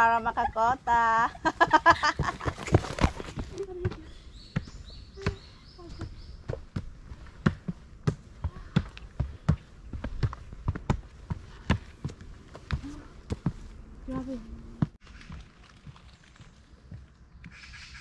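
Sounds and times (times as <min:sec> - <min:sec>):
footsteps jogging on trail: 0:01.6 - 0:17.7.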